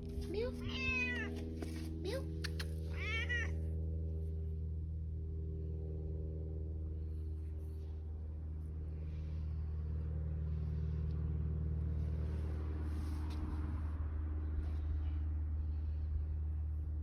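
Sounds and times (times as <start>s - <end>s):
motor vehicle passing by: 0.0s - 17.0s
steady low hum: 0.0s - 17.0s.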